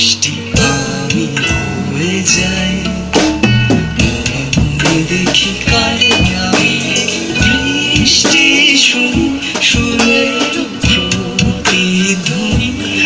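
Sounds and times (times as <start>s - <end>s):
band music: 0.0s - 13.0s
drum hits: 0.6s - 13.0s.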